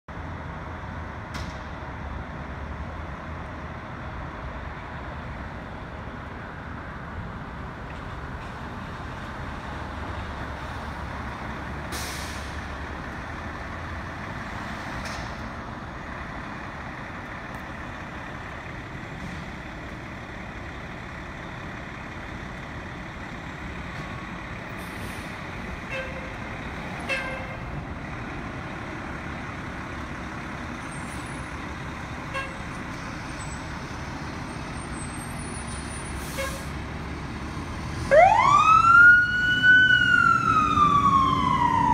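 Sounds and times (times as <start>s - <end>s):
diesel engine rumbling: 0.1s - 41.9s
traffic noise: 0.1s - 41.9s.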